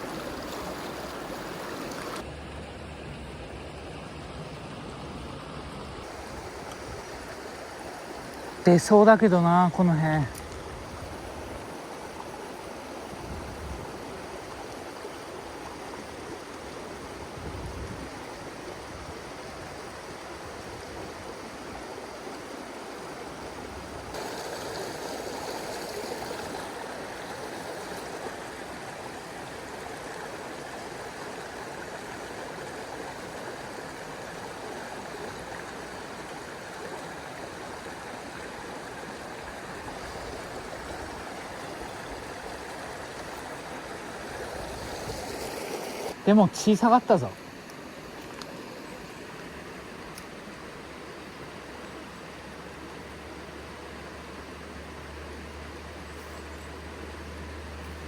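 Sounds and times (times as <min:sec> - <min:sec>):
stream rushing over rocks: 0:00.0 - 0:03.4, 0:04.1 - 0:56.1.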